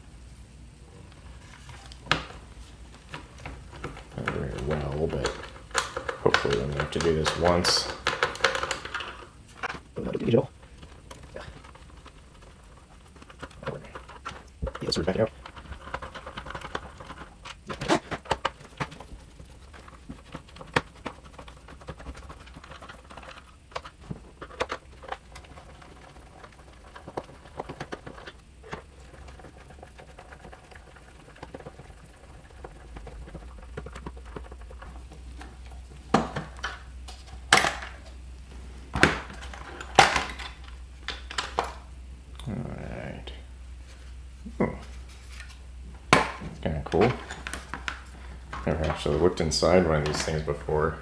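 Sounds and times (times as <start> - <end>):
plastic case clacking: 1.5 - 38.2, 38.9 - 41.9, 44.7 - 51.0.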